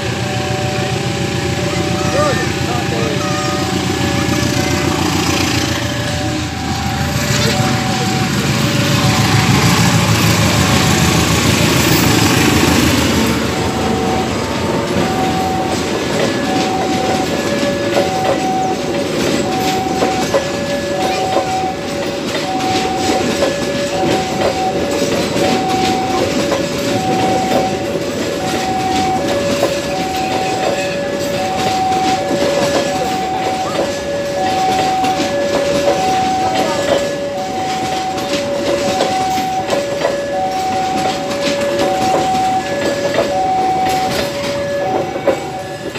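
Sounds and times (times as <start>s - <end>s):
level crossing alarm two tones: 0.0s - 45.9s
locomotive engine rumbling: 0.0s - 45.9s
train wheels clicking over rails: 0.0s - 45.9s.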